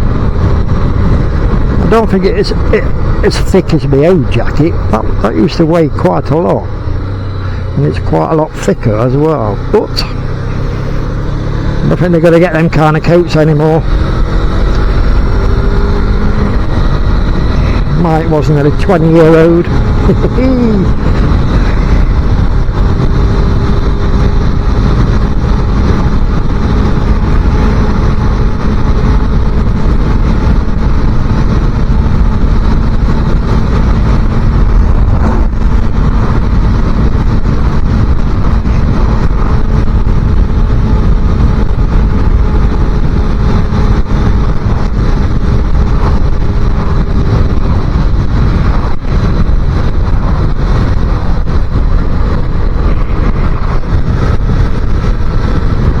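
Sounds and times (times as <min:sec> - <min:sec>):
motorcycle engine at road speed: 0:00.0 - 0:56.0
wind rush on microphone: 0:00.0 - 0:56.0.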